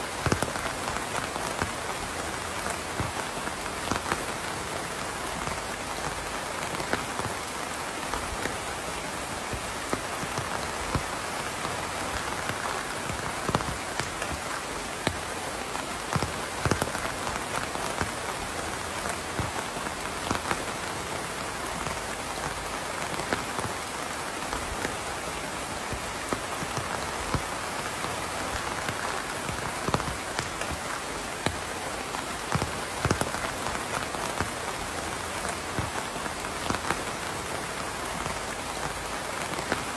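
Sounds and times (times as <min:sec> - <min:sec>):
raindrops tapping: 0:00.0 - 0:39.9
steady rain hiss: 0:00.0 - 0:39.9.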